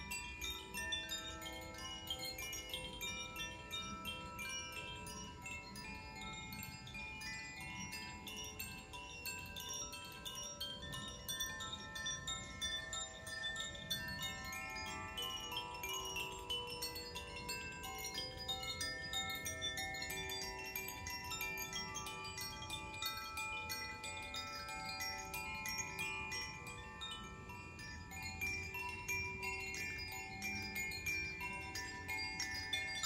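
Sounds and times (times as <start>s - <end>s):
bamboo wind chimes ringing: 0.0s - 33.0s.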